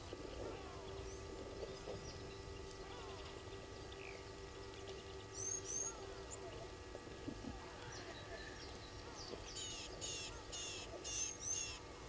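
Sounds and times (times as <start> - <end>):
birds chirping and whistling: 0.0 - 6.7, 7.7 - 11.9
faint low drone: 0.0 - 12.0.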